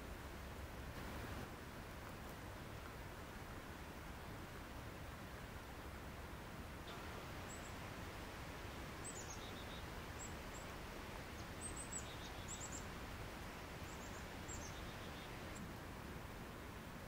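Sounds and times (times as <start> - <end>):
low outdoor background noise: 0.0 - 17.0.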